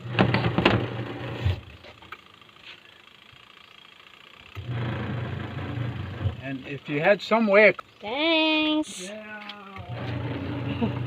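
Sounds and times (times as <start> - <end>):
washing machine motor humming: 0.0 - 2.5, 3.2 - 11.0.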